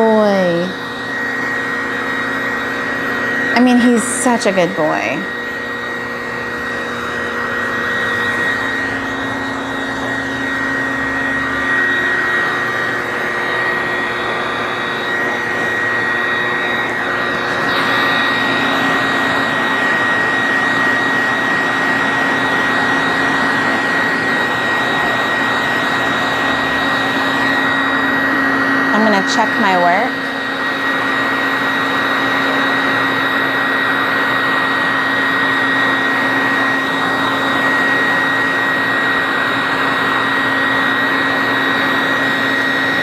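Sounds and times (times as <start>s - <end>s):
dog dryer blowing air: 0.0s - 43.0s.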